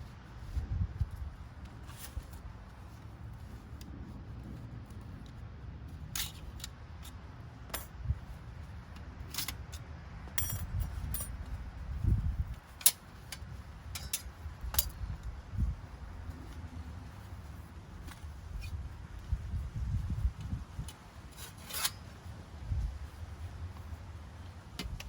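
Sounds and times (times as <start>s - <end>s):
steady low rumble: 0.0s - 21.4s, 22.0s - 25.0s
camp gear clicking and clinking: 1.4s - 18.8s, 20.4s - 25.0s.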